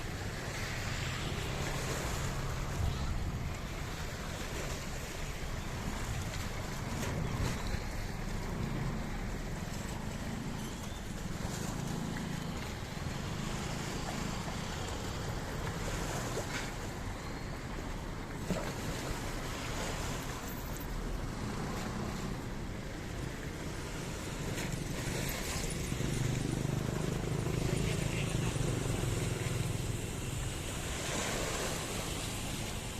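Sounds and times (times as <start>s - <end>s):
sea noise: 0.0s - 32.9s
wind: 0.0s - 32.9s.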